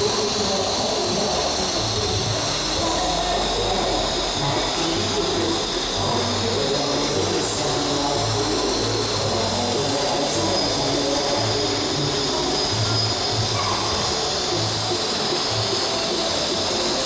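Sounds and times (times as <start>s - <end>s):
welding arc roar and hiss: 0.0s - 17.0s.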